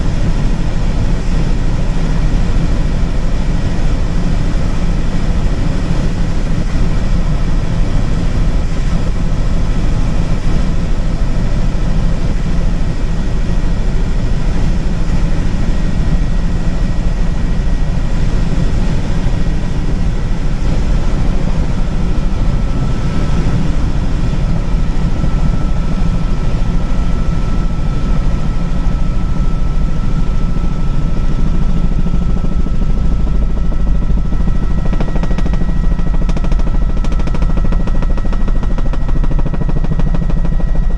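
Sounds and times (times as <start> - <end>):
helicopter rotor and engine drone: 0.0 - 40.9
thin steady whine: 0.0 - 40.9.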